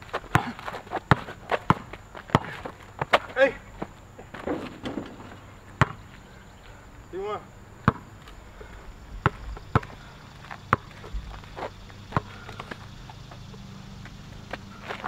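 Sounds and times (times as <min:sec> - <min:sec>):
basketball bouncing on asphalt: 0:00.0 - 0:06.4, 0:07.8 - 0:15.0.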